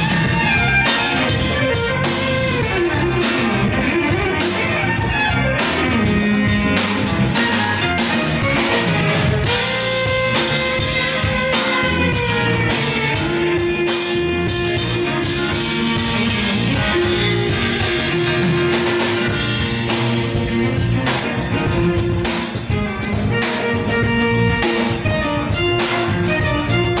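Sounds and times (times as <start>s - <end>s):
live rock band instrumental: 0.0s - 27.0s.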